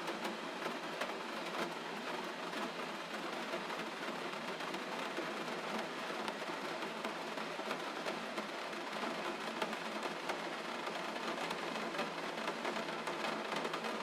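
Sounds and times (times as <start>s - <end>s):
rain drops ticking: 0.0s - 14.0s.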